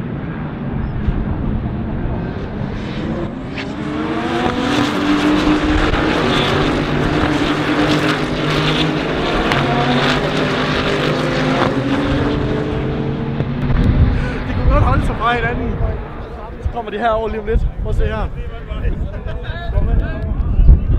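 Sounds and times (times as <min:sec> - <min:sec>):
race car engines: 0:00.0 - 0:20.8.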